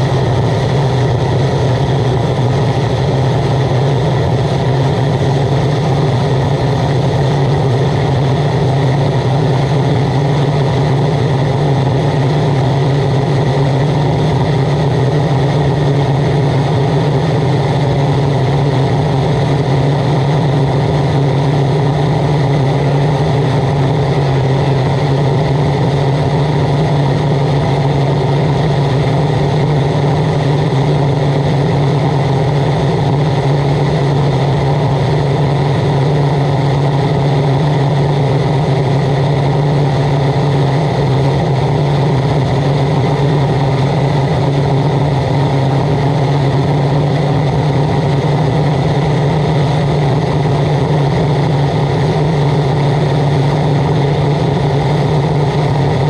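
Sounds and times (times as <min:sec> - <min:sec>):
oil burner rushing noise: 0:00.0 - 0:56.0.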